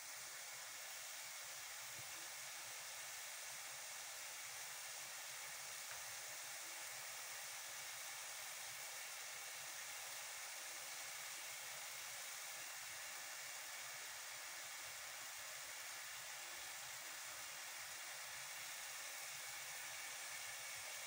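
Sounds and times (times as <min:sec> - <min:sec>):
sauce frying in a pot: 0:00.0 - 0:21.0.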